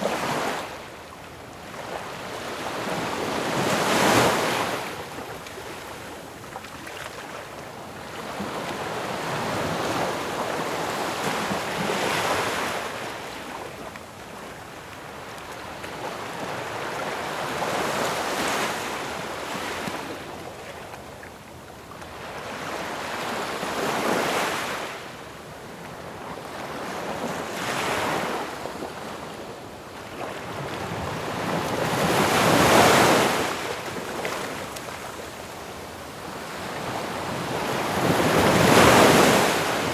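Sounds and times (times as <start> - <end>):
ocean waves breaking on shore: 1.6 - 20.8, 22.1 - 39.9.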